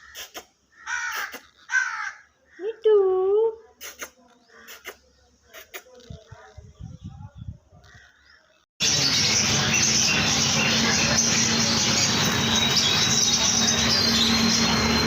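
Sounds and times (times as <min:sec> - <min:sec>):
birds chirping and chattering: 0:00.0 - 0:15.0.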